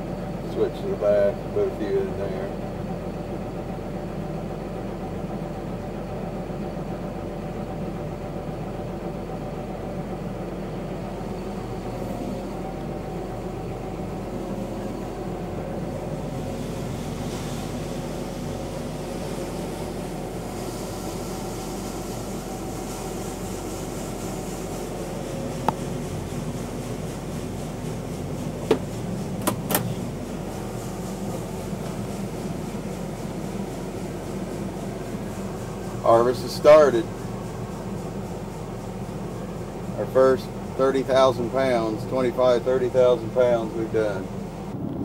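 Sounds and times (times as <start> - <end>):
tractor diesel engine running: 0.0 - 45.0
hiss: 4.4 - 44.7.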